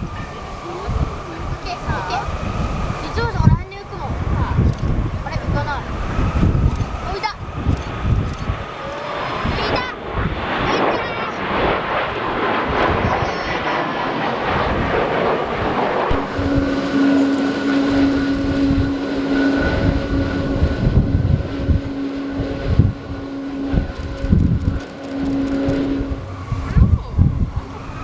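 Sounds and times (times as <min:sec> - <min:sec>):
jet engines whining: 0:00.0 - 0:28.0
wind buffeting microphone: 0:00.0 - 0:28.0.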